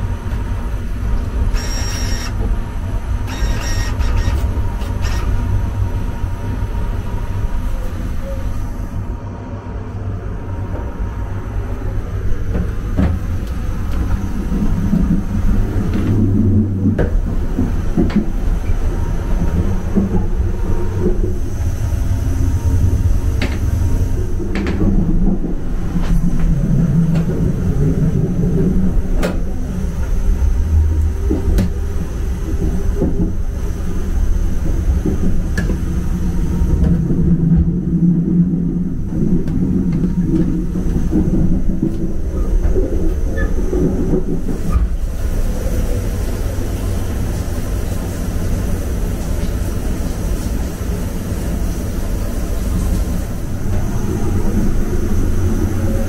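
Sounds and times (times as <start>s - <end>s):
train carriage rumbling: 0.0s - 56.0s.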